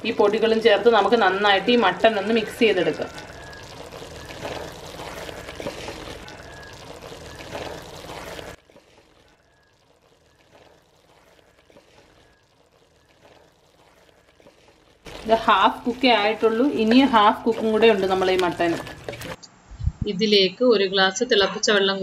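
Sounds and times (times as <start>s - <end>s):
spoon stirring meat in a pot: 0.2s - 19.4s.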